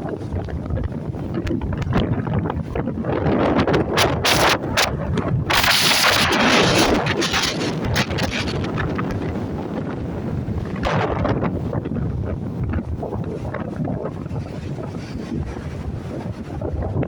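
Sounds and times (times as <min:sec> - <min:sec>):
wind buffeting microphone: 0:00.0 - 0:17.0
surf breaking: 0:00.1 - 0:17.0.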